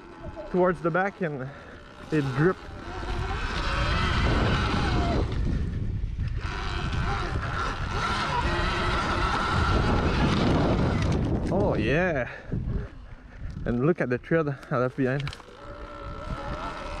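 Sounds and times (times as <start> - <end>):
electric motor whine: 0.0 - 13.9, 14.6 - 17.0
wind buffeting on microphone: 0.0 - 17.0.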